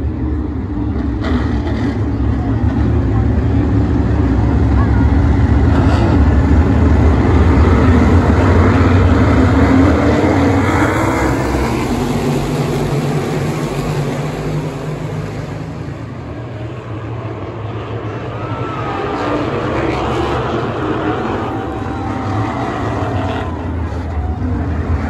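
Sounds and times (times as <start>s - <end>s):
race car engines droning: 0.0s - 25.0s.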